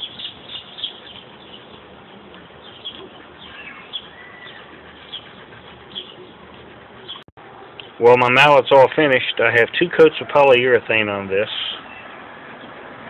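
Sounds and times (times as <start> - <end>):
faint outdoor hiss: 0.0 - 12.7
birds chirping: 0.0 - 12.8.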